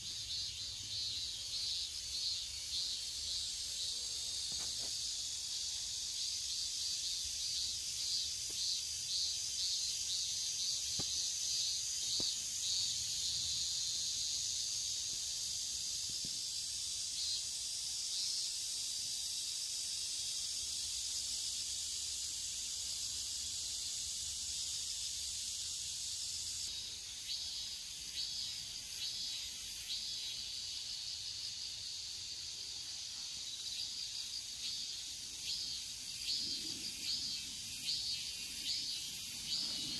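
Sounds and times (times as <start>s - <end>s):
higher insect chirring: 0.0s - 39.9s
insects chirring: 0.0s - 39.9s.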